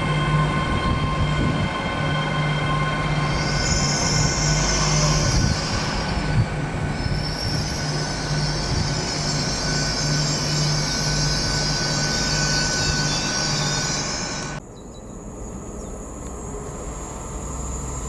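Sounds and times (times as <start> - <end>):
high-pitched squeal: 0.0 - 14.6
train moving along track: 0.0 - 18.0.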